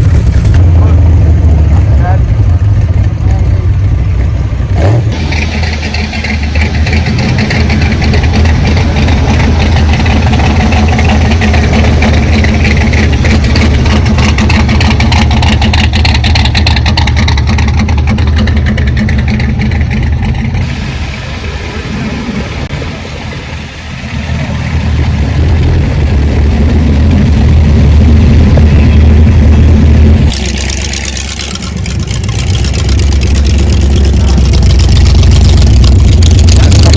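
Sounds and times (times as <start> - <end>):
car engine rumbling: 0.0 - 36.9.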